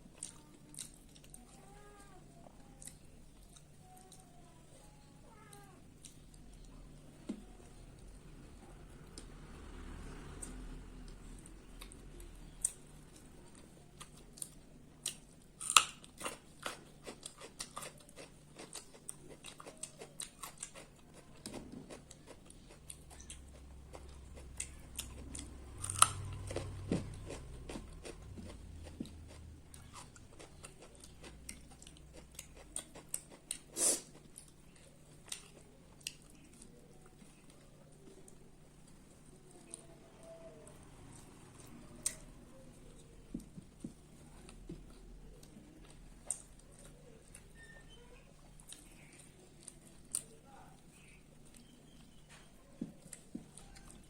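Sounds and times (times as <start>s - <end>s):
person chewing food: 0.0s - 1.6s, 2.4s - 8.2s, 10.4s - 47.7s, 48.3s - 54.0s.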